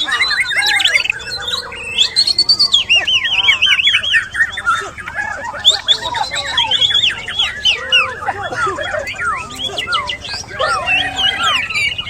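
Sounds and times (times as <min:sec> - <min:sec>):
birds singing whistled notes: 0:00.0 - 0:12.0.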